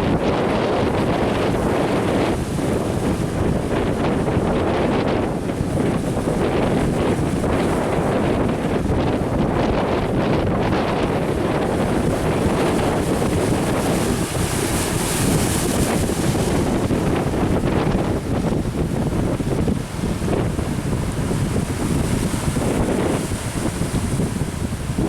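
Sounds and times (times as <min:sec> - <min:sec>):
sea waves and surf: 0:00.0 - 0:25.0
wind buffeting microphone: 0:00.0 - 0:25.0.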